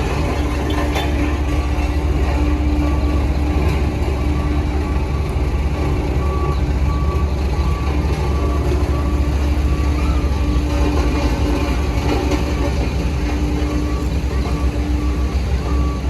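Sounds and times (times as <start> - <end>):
diesel engine running: 0.0 - 16.0
reversing alarm beeps: 1.0 - 12.8, 13.6 - 16.0.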